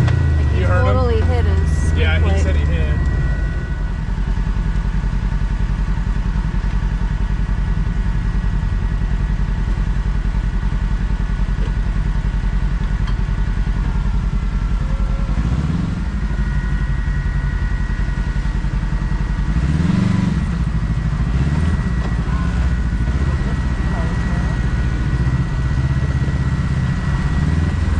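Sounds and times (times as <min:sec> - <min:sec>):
high whine: 0:00.0 - 0:27.9
vehicle engine running: 0:00.0 - 0:27.9.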